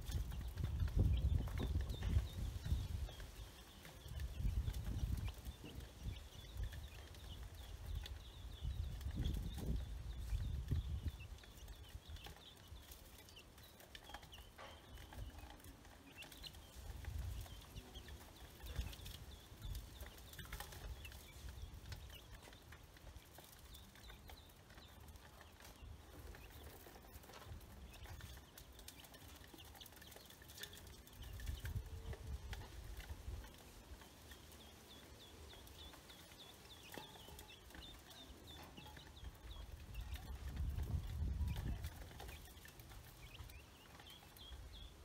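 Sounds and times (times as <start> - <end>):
ducklings and chicks peeping: 0.0 - 45.0.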